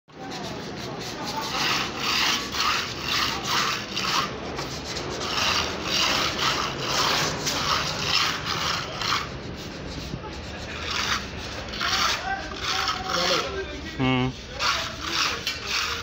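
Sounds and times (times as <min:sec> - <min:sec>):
hand float scraping wet wall: 0:00.1 - 0:16.0.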